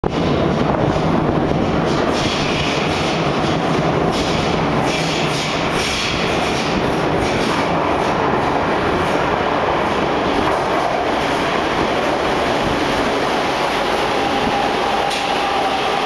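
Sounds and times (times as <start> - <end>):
train rumbling in tunnel: 0.0 - 16.0
wheels clattering on rail: 0.0 - 16.0.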